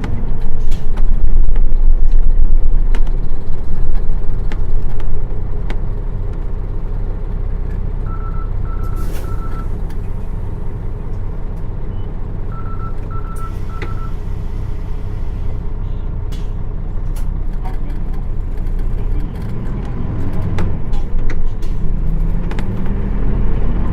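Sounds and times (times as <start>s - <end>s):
bus diesel engine droning: 0.0s - 23.9s.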